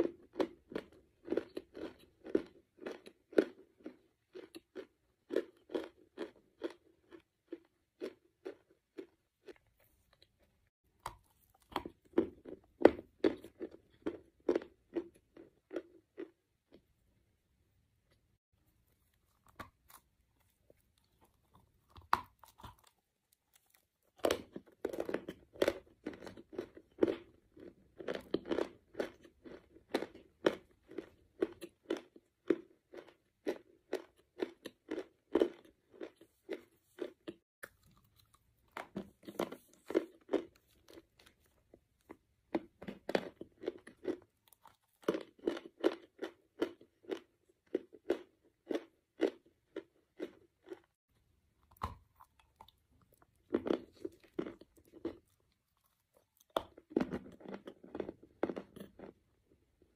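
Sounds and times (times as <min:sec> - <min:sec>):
crunchy chewing: 0:00.0 - 0:16.8, 0:18.6 - 0:51.0, 0:51.6 - 0:59.3.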